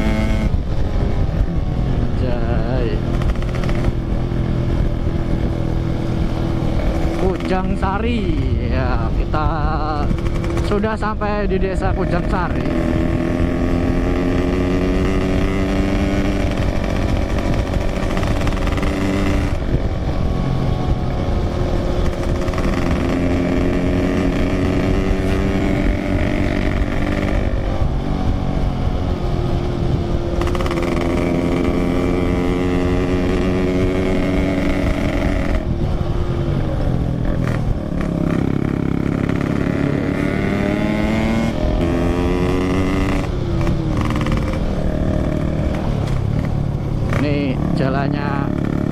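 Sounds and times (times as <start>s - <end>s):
motorcycle engine revving: 0.0s - 48.9s
road noise: 0.0s - 48.9s.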